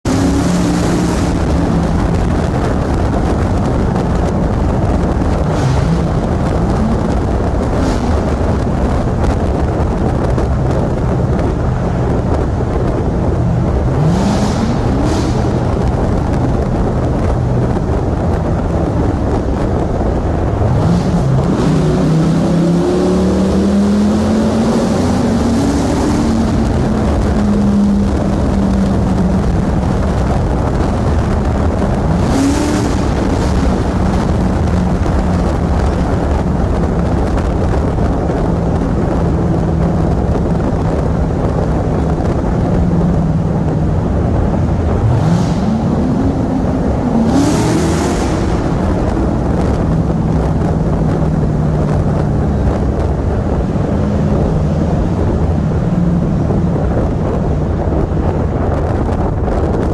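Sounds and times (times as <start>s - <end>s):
car engines revving in tunnel: 0.0s - 59.9s.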